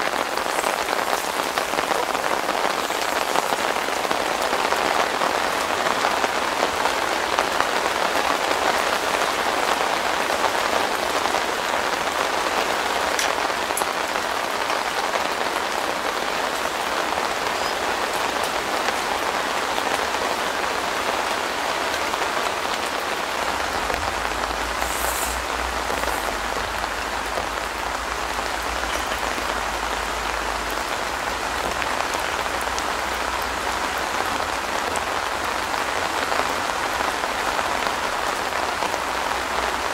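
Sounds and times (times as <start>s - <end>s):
rain on a tent roof: 0.0s - 39.9s.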